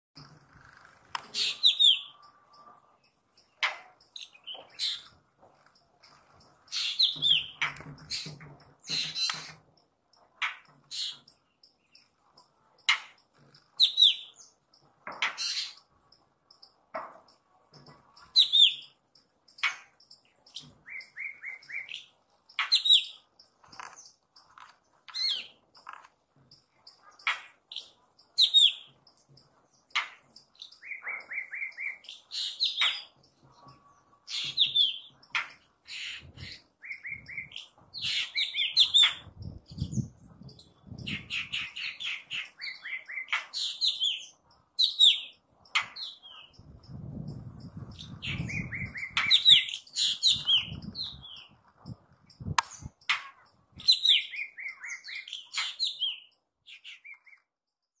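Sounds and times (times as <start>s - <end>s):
buzzy bird trills: 0.2s - 9.6s, 18.0s - 57.4s
small birds chirping: 0.2s - 58.0s.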